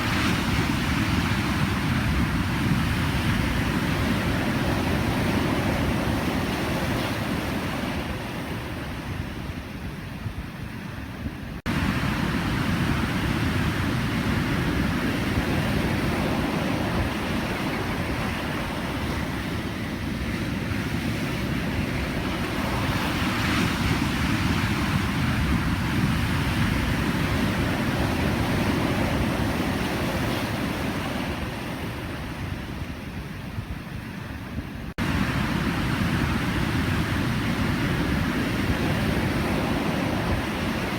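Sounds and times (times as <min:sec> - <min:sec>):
ocean waves washing: 0:00.0 - 0:40.9.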